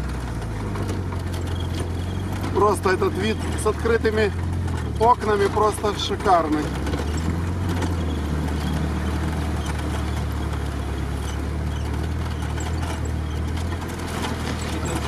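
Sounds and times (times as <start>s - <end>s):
tyres rolling on muddy track: 0.0s - 15.0s
vehicle engine running: 0.0s - 15.0s.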